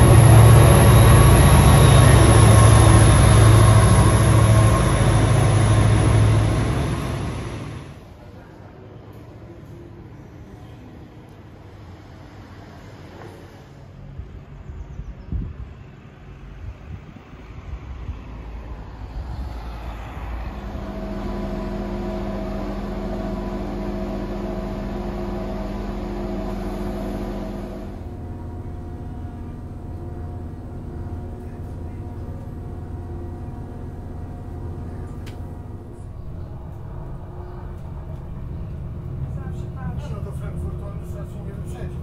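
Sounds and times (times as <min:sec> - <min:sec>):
railcar cabin rumble: 0:00.0 - 0:12.0, 0:13.0 - 0:42.0
diesel railcar engine humming: 0:00.0 - 0:42.0.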